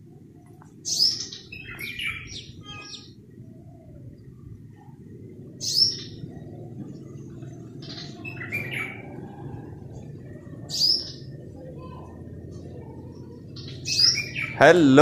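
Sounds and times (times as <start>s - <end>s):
birds chirping: 0.0s - 15.0s
low background rumble: 0.0s - 15.0s.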